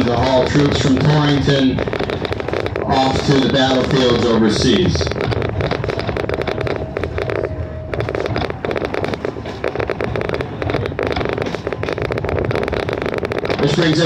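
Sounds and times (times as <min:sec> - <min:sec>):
thin steady whine: 0:00.0 - 0:14.0
train car rattling on track: 0:00.0 - 0:14.0.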